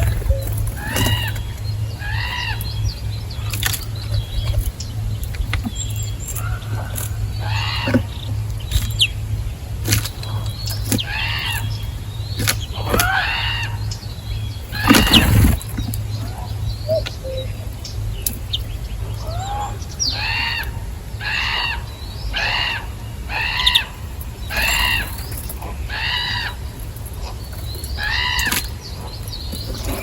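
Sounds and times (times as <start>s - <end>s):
birds harsh arched calls: 0.0s - 30.0s
steady low hum: 0.0s - 30.0s.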